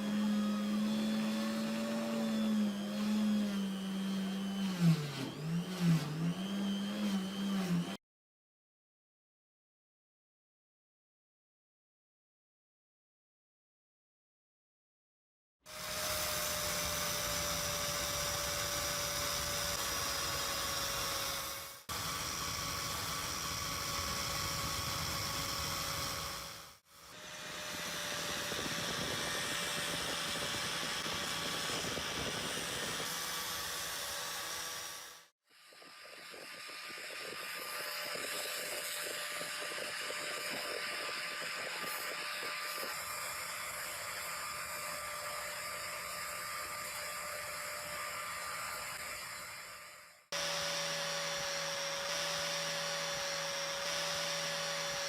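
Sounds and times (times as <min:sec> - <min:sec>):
power tool motor whining: 0:00.0 - 0:08.0, 0:15.7 - 0:55.0.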